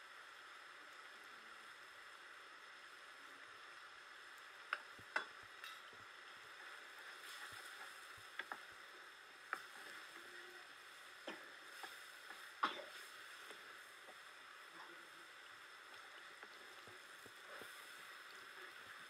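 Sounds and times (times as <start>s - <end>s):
faint sizzle: 0.0s - 19.0s.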